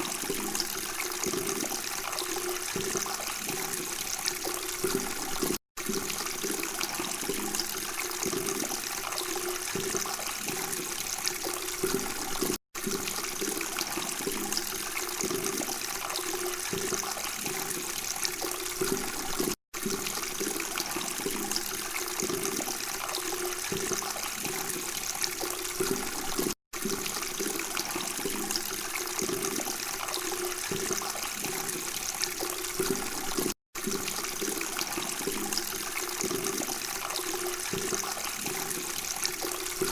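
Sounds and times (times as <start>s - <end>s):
water flowing and babbling: 0.0s - 39.9s.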